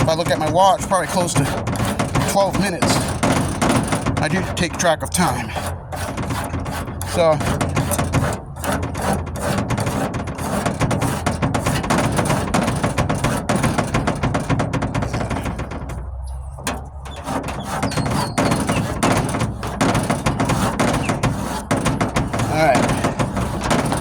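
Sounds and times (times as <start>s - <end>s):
rasp scraping body filler: 0.0s - 24.0s.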